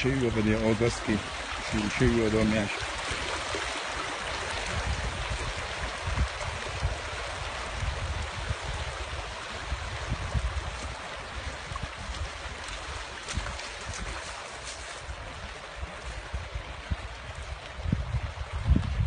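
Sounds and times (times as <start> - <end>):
water rushing over stones: 0.0 - 19.0
wind buffeting microphone: 0.0 - 19.0.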